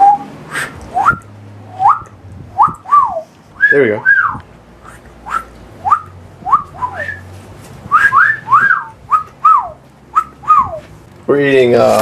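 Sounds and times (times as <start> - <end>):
person whistling short swooping notes: 0.0 - 2.0, 2.6 - 7.3, 7.9 - 10.8.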